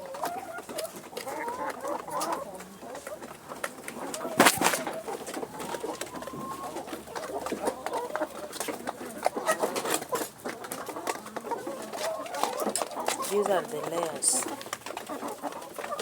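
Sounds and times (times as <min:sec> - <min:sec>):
chickens calling softly: 0:00.0 - 0:16.0.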